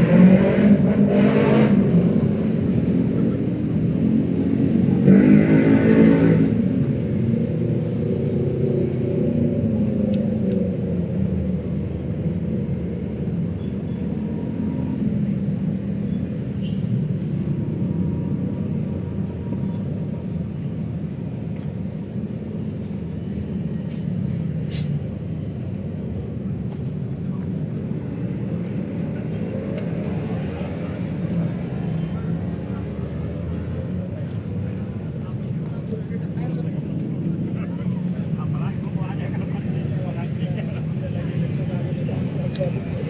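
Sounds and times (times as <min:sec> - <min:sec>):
city road traffic rumble: 0:00.0 - 0:43.0.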